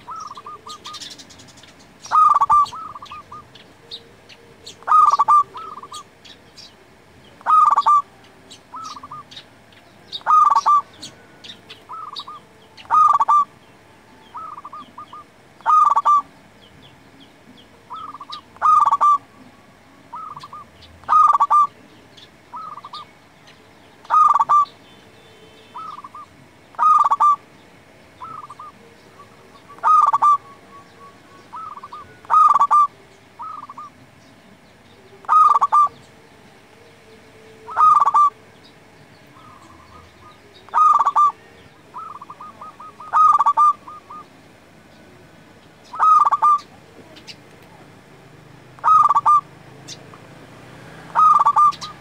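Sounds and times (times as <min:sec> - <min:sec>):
dove cooing: 0:00.0 - 0:13.6, 0:14.2 - 0:16.3, 0:17.5 - 0:23.2, 0:24.0 - 0:24.7, 0:25.7 - 0:27.5, 0:28.2 - 0:34.1, 0:35.0 - 0:36.1, 0:37.6 - 0:38.5, 0:39.3 - 0:45.2, 0:45.9 - 0:47.8, 0:48.8 - 0:50.1, 0:50.8 - 0:52.0.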